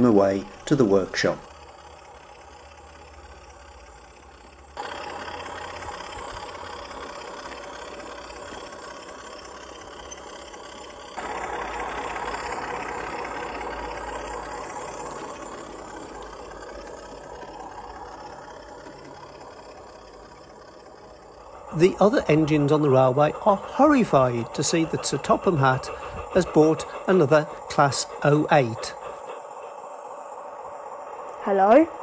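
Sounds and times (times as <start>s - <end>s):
model locomotive running on track: 0.0s - 32.0s.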